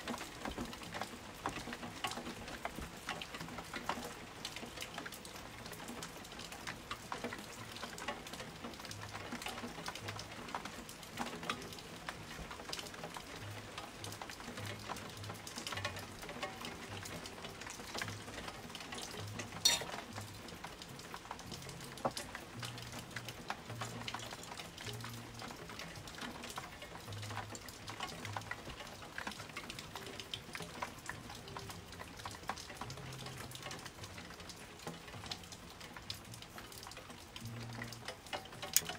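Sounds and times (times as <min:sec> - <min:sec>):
rain patter: 0:00.0 - 0:38.9.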